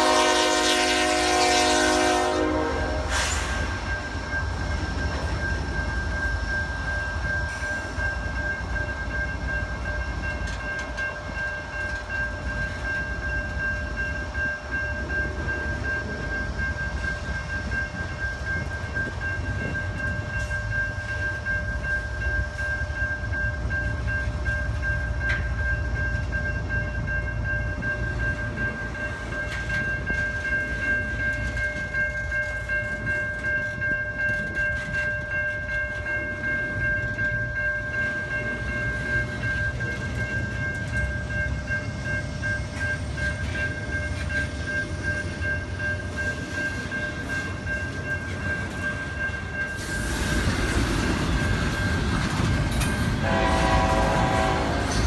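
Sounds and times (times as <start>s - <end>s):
train wheels rumbling on rails: 0.0s - 55.0s
steady high-pitched tone: 2.4s - 55.0s.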